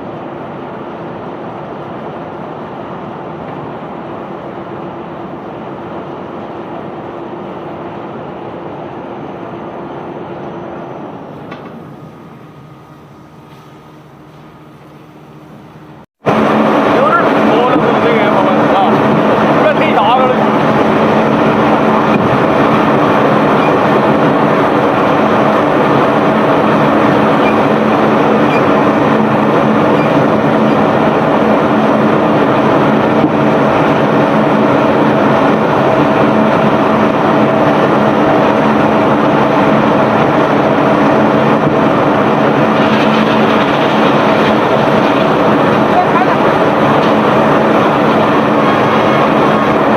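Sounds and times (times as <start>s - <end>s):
machinery rumble and clatter: 0.0s - 49.9s
steady machinery hum: 0.0s - 49.9s.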